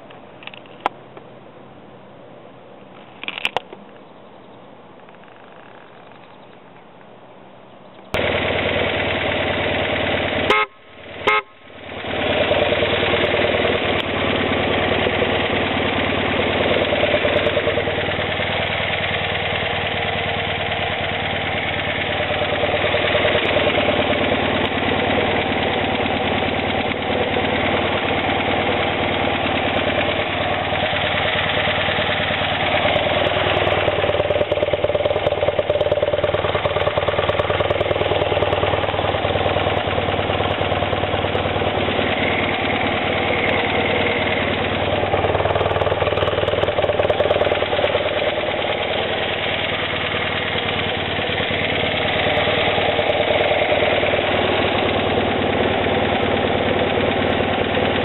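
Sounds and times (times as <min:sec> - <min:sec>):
motorcycle engine idling: 0:07.9 - 0:58.0.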